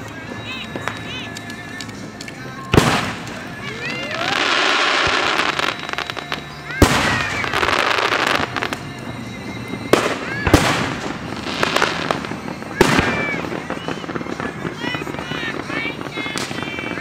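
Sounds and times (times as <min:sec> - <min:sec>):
fireworks booming: 0:00.0 - 0:17.0
fireworks crackling: 0:00.0 - 0:17.0.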